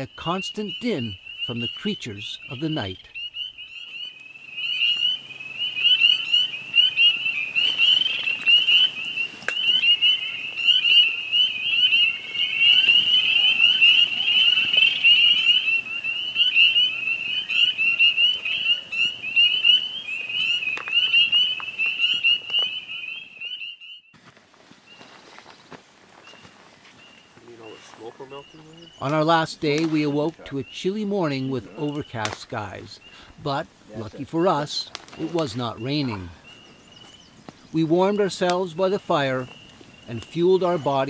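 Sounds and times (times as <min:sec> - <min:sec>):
chorus of frogs calling: 0:00.0 - 0:24.0, 0:27.0 - 0:41.0.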